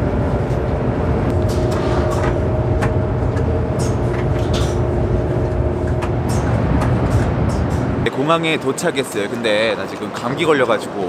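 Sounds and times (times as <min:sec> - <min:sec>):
train rumbling inside carriage: 0:00.0 - 0:11.0.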